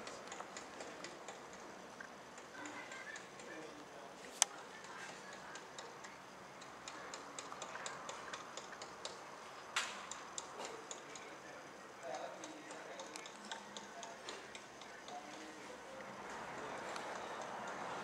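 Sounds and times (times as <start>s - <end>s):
faint irregular clicking: 0.0s - 18.0s.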